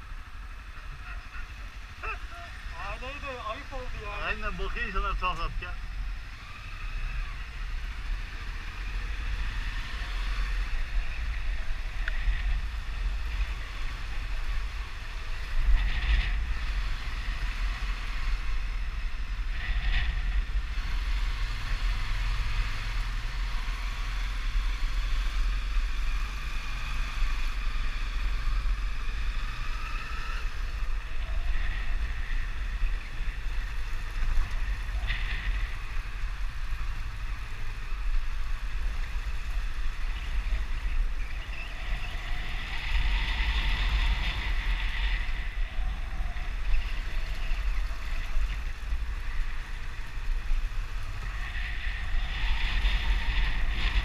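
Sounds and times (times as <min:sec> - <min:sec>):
motorcycle engine running: 0:00.0 - 0:54.0
wind buffeting microphone: 0:05.8 - 0:54.0.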